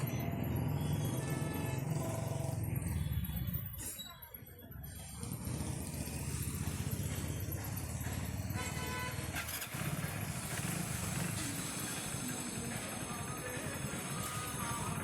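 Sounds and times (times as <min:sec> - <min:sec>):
motorcycle engine running: 0:00.0 - 0:03.8, 0:04.8 - 0:15.0.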